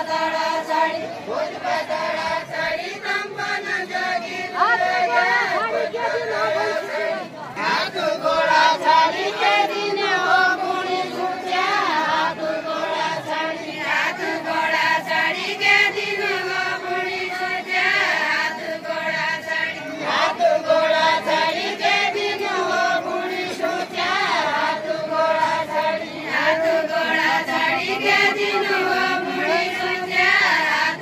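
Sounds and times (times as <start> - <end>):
women singing in chorus: 0.0 - 31.0.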